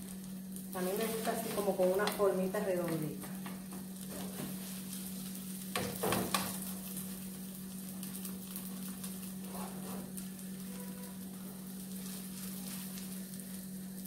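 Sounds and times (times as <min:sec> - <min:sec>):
pancake sizzling in pan: 0:00.0 - 0:14.0
steady low hum: 0:00.0 - 0:14.0.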